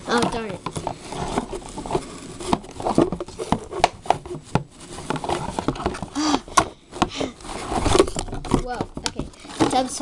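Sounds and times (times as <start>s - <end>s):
cardboard and plastic toy handled: 0.0s - 10.0s.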